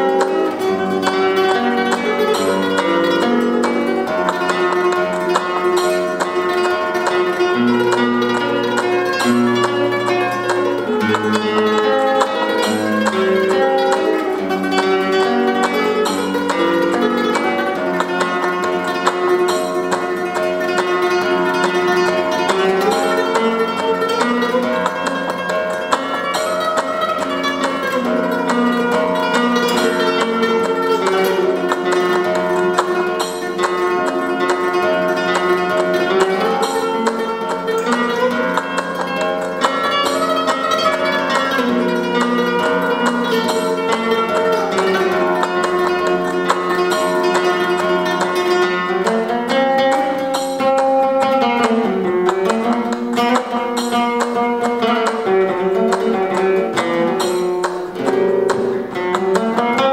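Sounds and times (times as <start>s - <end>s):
fingerstyle flamenco guitar: 0.0s - 59.9s.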